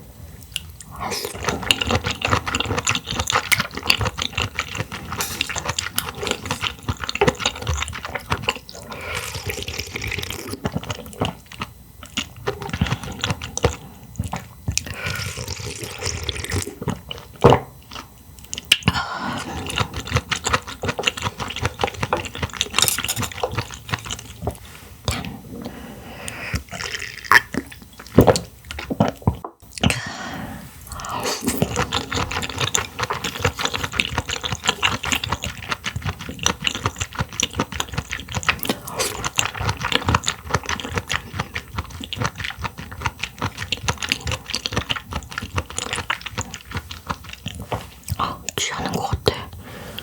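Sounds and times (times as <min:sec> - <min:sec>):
wet chewing: 0:00.4 - 0:30.0, 0:30.9 - 0:50.0.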